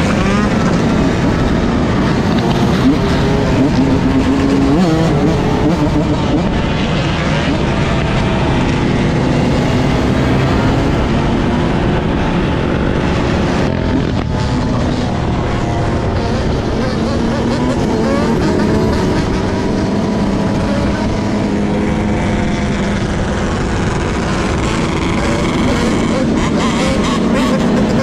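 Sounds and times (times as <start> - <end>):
vehicle engines revving: 0.0 - 28.0.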